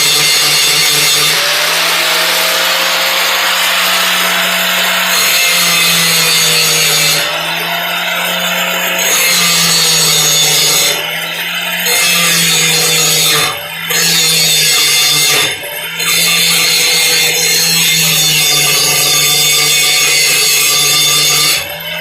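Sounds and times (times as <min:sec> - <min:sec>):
grinder grinding steel: 0:00.0 - 0:22.0
grinder motor hum: 0:00.0 - 0:22.0.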